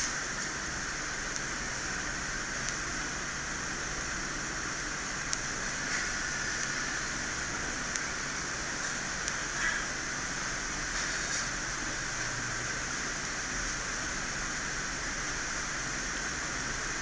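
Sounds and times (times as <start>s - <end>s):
fan-like hiss: 0.0s - 17.0s.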